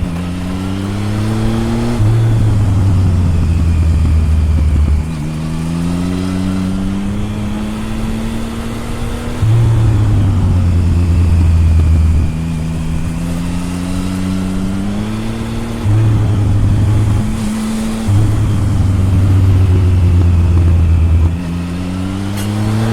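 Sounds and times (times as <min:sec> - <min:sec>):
motorcycle engine exhaust: 0:00.0 - 0:22.9.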